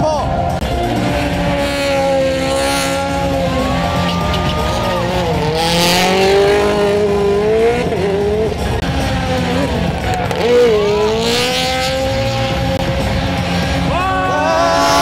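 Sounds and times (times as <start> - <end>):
car engine revving hard: 0.5 - 15.0.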